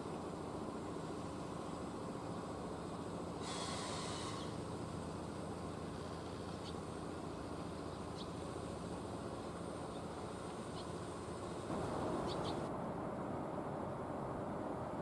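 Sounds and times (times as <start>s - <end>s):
low hum and rushing background: 0.0s - 15.0s.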